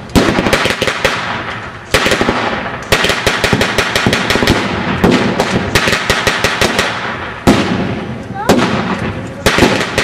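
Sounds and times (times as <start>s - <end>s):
rifle and automatic gunfire: 0.2s - 10.0s.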